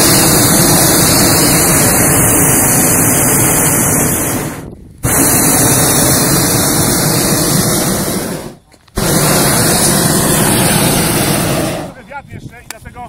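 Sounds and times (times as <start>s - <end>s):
propane burner blasts: 0.0s - 12.7s.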